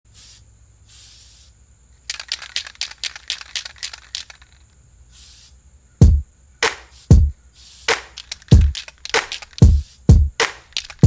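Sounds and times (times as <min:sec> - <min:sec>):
spray can hissing: 0:00.1 - 0:05.6, 0:06.6 - 0:11.0
spray can mixing ball rattling: 0:00.1 - 0:05.6, 0:06.7 - 0:11.0.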